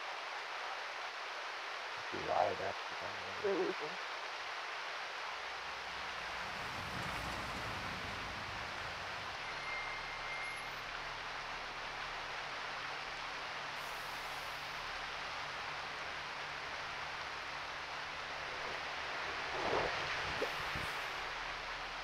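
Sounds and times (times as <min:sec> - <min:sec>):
vehicle noise hiss: 0:04.4 - 0:22.0.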